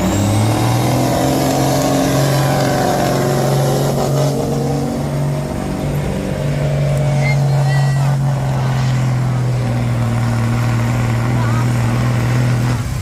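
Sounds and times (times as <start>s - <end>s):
diesel truck engine running hard: 0.0s - 13.0s.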